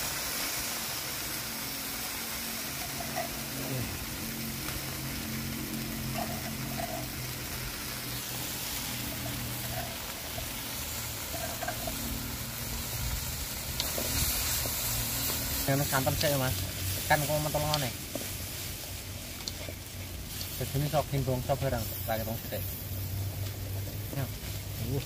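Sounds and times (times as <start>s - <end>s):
paste sizzling in hot oil: 0.0s - 25.0s.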